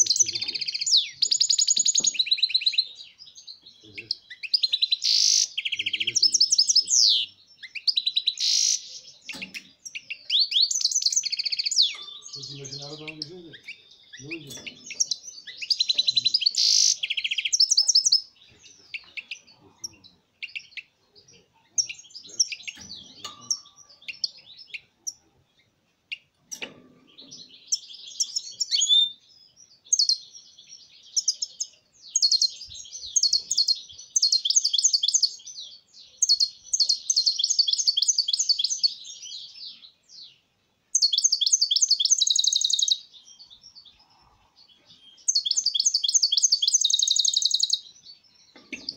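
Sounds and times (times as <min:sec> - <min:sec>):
goldfinch twittering song: 0:00.0 - 0:20.9, 0:21.7 - 0:48.9.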